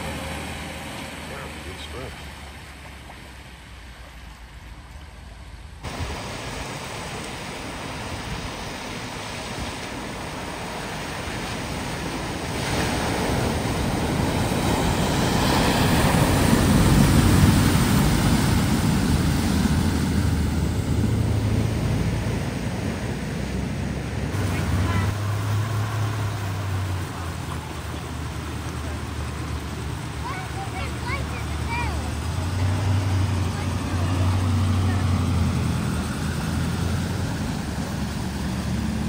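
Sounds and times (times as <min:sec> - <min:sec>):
diesel engine drone: 0:00.0 - 0:39.0
outdoor ambience: 0:00.0 - 0:39.0
water splashing from truck: 0:00.0 - 0:39.0.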